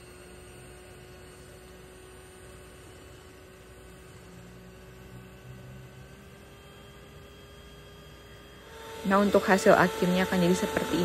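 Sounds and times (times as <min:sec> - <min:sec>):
electric mixer whipping: 0:00.0 - 0:11.0.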